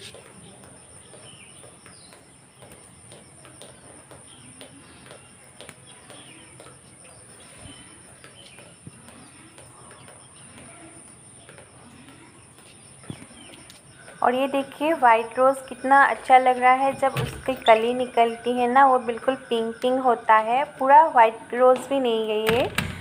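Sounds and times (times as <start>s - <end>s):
birds calling: 0.0s - 21.9s
pulsing insect chirps: 0.4s - 22.4s.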